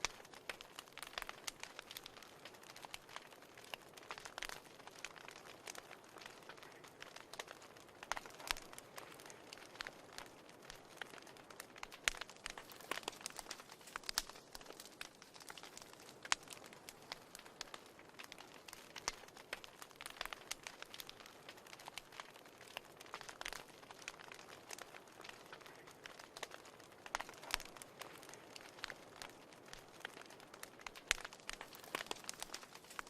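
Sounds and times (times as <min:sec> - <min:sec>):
fire crackling and popping: 0:00.0 - 0:33.0
fire hissing: 0:00.0 - 0:33.0.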